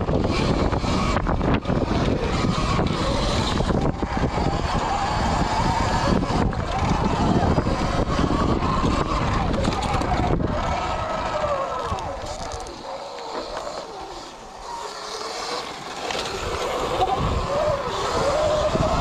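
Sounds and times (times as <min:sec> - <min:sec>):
small engine with wavering pitch: 0:00.0 - 0:19.0.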